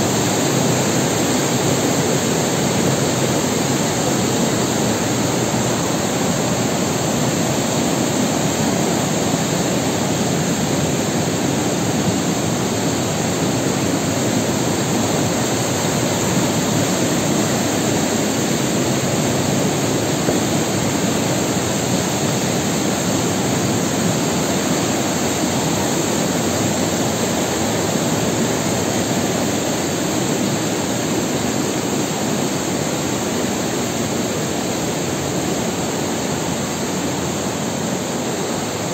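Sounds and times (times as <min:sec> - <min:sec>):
stream rushing through rocks: 0:00.0 - 0:38.9.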